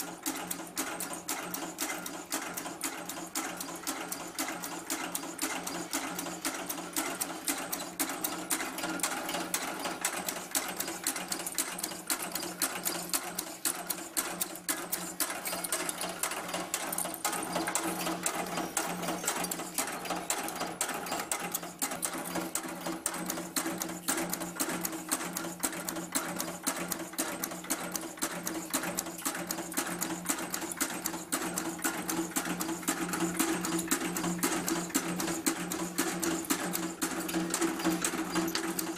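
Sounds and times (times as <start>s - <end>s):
machine clattering clicks: 0.0s - 38.9s.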